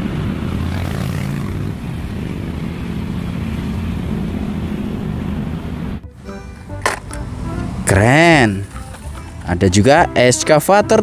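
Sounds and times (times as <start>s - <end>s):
truck engine running: 0.0s - 10.0s
motorcycle engines: 0.0s - 10.4s.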